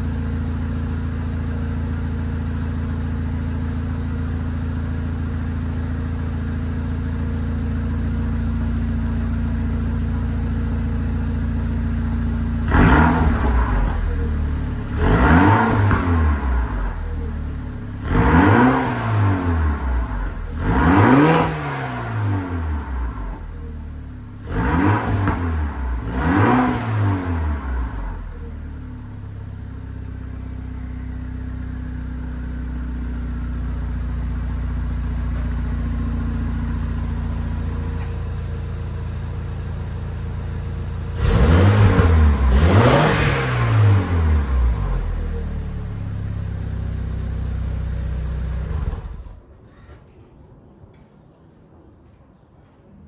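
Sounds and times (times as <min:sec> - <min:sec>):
car engine idling and revving: 0:00.0 - 0:49.5.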